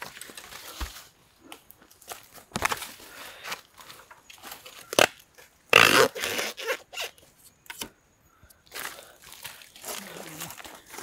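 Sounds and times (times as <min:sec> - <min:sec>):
dry leaves and twigs rustling: 0:00.0 - 0:07.4, 0:08.6 - 0:11.0.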